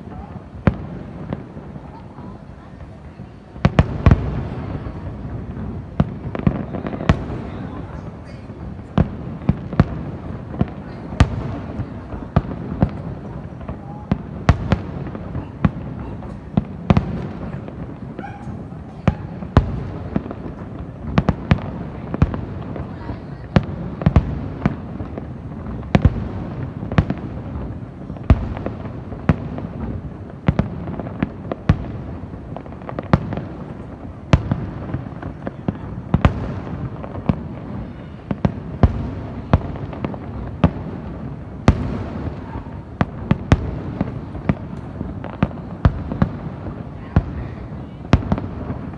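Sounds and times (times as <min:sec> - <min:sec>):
fireworks sharp bangs: 0:00.0 - 0:48.9.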